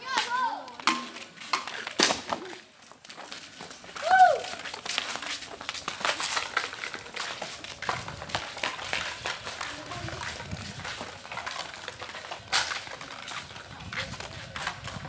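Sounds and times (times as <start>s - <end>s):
footsteps on street: 0.0s - 15.0s.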